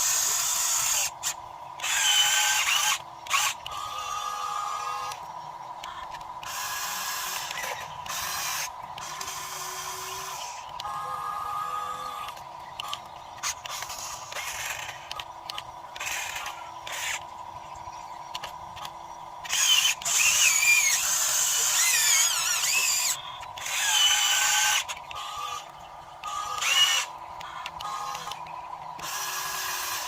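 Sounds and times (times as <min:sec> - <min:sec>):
model excavator motors whirring: 0:00.0 - 0:30.0.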